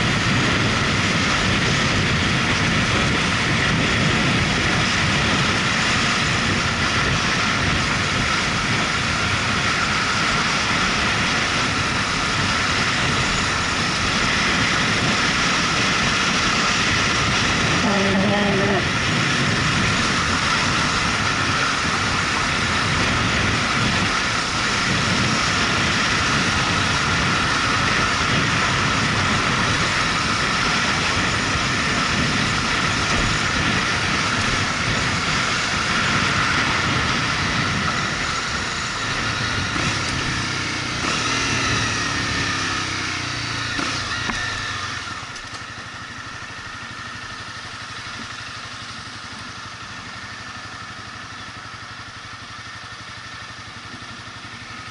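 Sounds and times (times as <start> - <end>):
wind on microphone: 0.0 - 47.8
motorcycle engine: 0.0 - 54.9.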